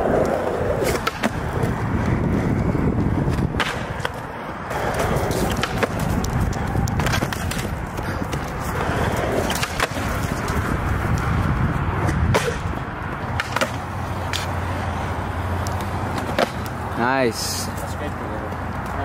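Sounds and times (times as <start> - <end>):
skateboard clacks: 0.0 - 17.0
skateboard wheels rolling on concrete: 0.0 - 19.0.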